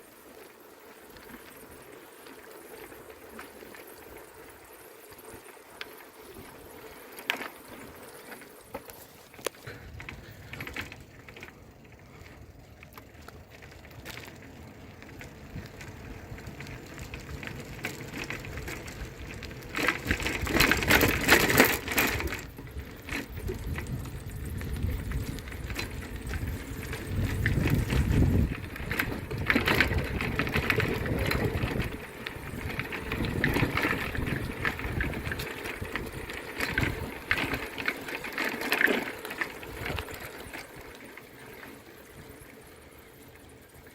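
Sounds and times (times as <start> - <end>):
bicycle rumbling and rattling: 0.0 - 43.9.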